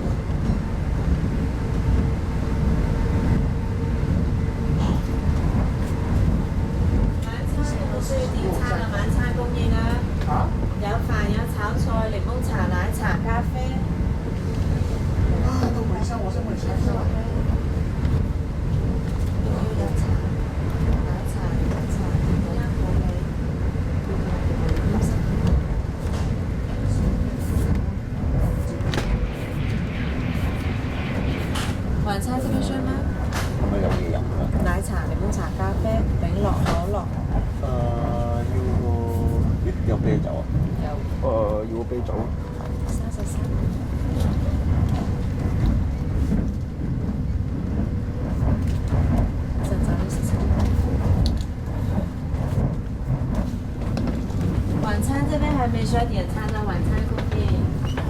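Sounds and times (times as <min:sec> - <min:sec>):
train coach running rumble: 0:00.0 - 0:58.0.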